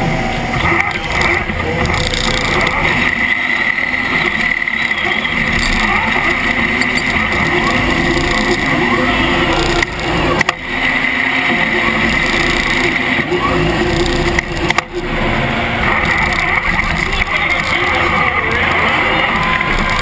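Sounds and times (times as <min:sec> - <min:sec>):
crowd noise and voices: 0:00.0 - 0:20.0
robot motors whining: 0:00.0 - 0:20.0.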